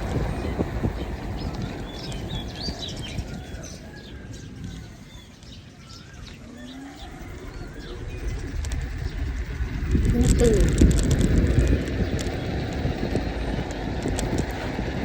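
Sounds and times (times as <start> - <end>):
low rumbling noise: 0.0 - 15.0
small birds chirping: 0.0 - 15.0.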